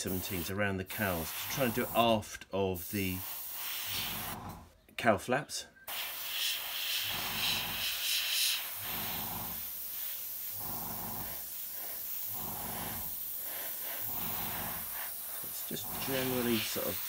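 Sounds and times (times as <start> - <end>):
airbrush spraying: 0.0 - 2.2, 2.8 - 4.5, 5.9 - 17.0.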